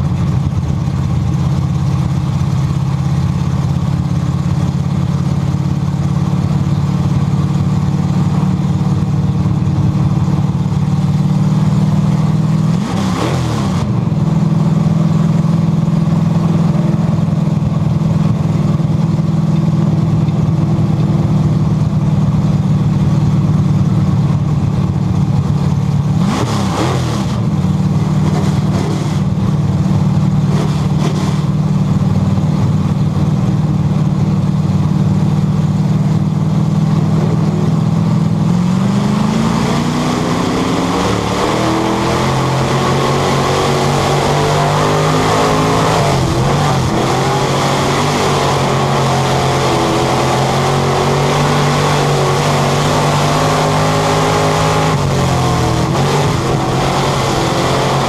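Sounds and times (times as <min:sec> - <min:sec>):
race car engine at speed: 0:00.0 - 0:58.0
road noise: 0:00.0 - 0:58.0.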